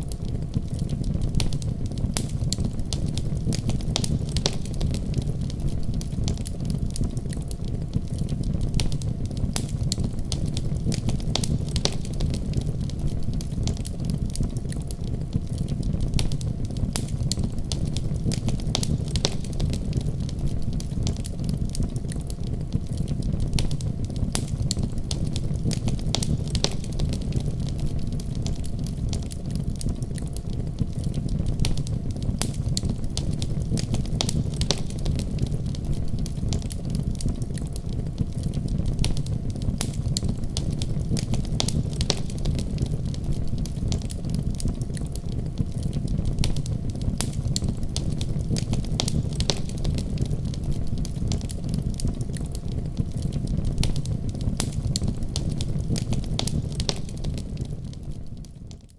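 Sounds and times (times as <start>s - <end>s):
wood fire crackling in fireplace: 0.0s - 58.9s.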